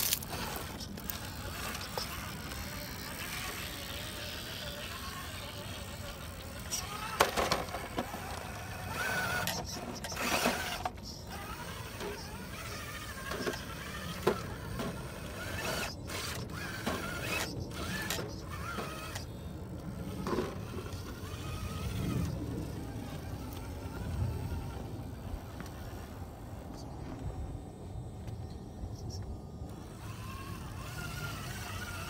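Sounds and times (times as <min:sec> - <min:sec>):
electric motor whining: 0:00.0 - 0:27.6, 0:29.0 - 0:32.0.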